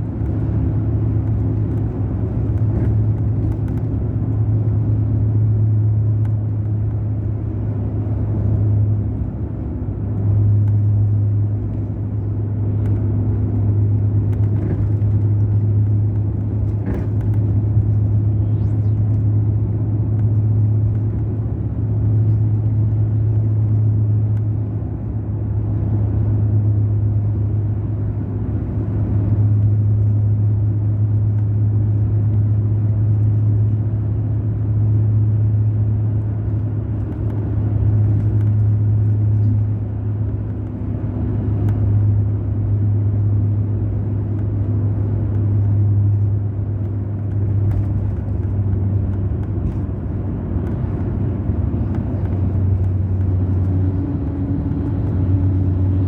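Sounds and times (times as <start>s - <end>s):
coach diesel engine drone: 0.0s - 56.0s.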